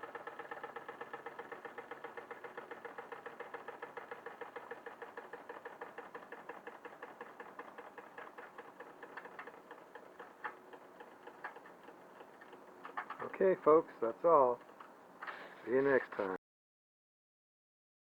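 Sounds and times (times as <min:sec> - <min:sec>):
toy steam engine chuffing: 0:00.0 - 0:16.4.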